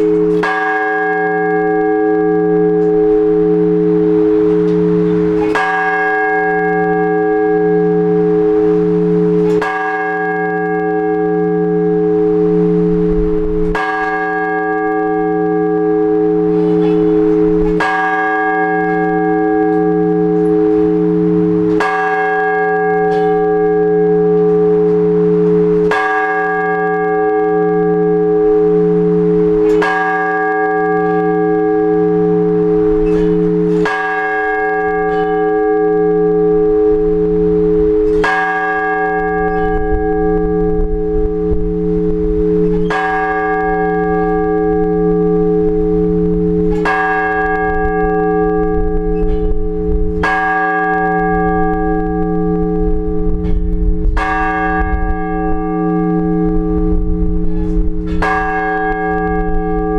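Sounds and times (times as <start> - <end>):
large church bell tolling: 0.0 - 59.9.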